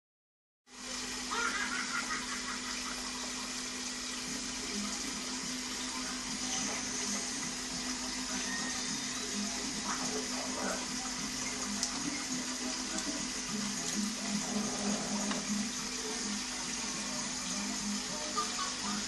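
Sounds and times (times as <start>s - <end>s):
aquarium filter water rushing: 0.7s - 19.0s.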